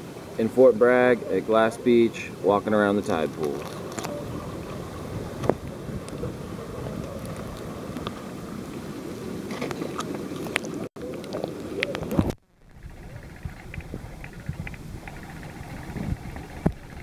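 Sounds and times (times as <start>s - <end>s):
surf: 0.0s - 17.0s
wind: 0.0s - 17.0s
muffled underwater sound: 0.8s - 8.4s, 10.5s - 17.0s.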